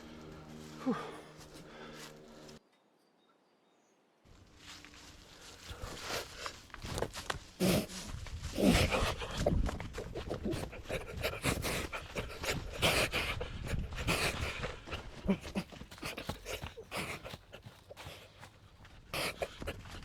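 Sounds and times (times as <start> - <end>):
heavy panting breaths: 0.0 - 2.6, 5.4 - 20.0.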